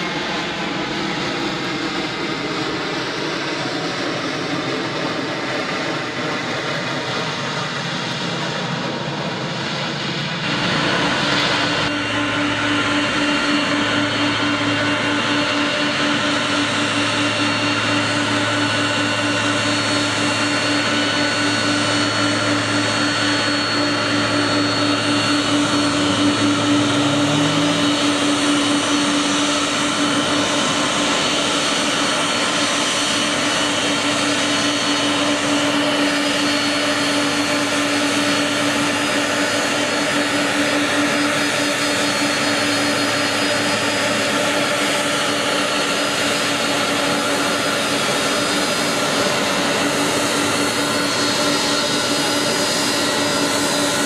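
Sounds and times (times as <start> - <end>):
jet engine whine: 0.0 - 54.0
jet engines rushing: 0.0 - 54.0.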